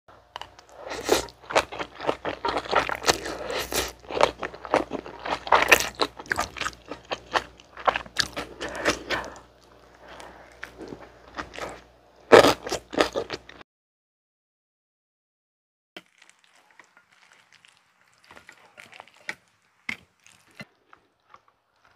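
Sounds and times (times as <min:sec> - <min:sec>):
chewing noodles: 0:00.4 - 0:13.6, 0:16.0 - 0:21.9.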